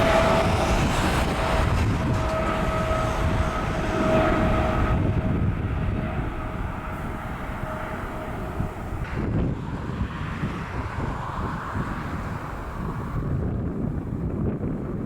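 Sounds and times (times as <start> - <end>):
jet engine roar: 0.0 - 15.0
jet engine whine: 0.0 - 15.0.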